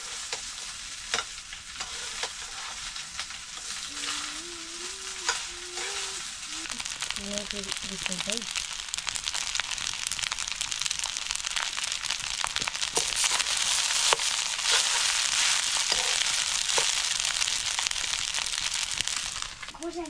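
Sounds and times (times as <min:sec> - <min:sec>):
sizzling hiss with crackles: 0:00.0 - 0:20.0.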